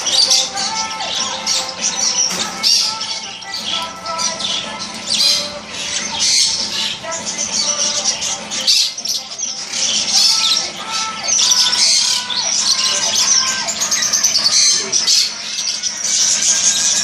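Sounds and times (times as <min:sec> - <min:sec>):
parrots and birds chirping and squawking: 0:00.0 - 0:17.0.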